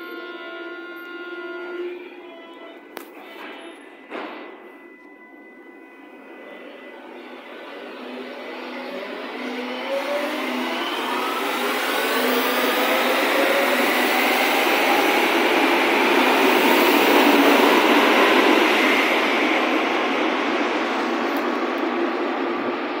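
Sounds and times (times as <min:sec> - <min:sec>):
underground train rolling: 0:00.0 - 0:23.0.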